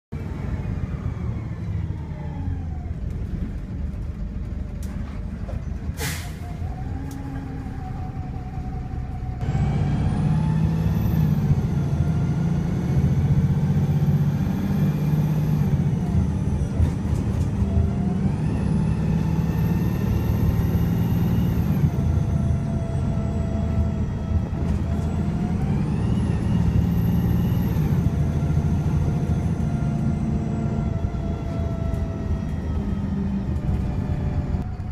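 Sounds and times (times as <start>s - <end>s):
bus engine running roughly: 0.2s - 34.9s.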